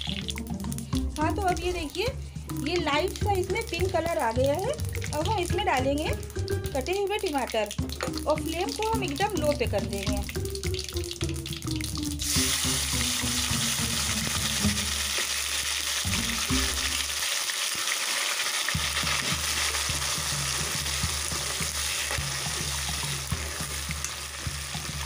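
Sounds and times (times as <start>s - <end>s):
tomatoes sizzling in hot oil: 0.0s - 25.0s.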